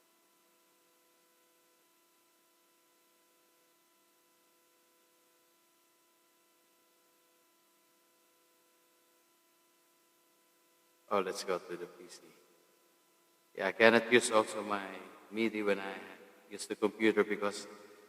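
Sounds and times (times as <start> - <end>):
electrical hum: 0.0 - 18.0
faint hiss: 0.0 - 18.0.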